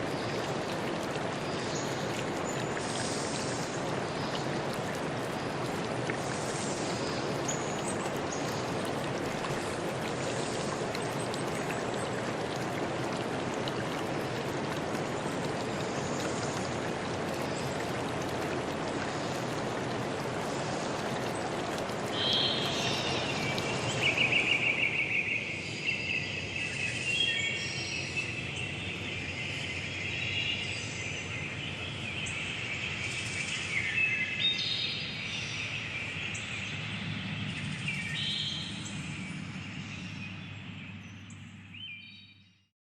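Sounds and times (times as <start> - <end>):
running water: 0.0 - 41.6.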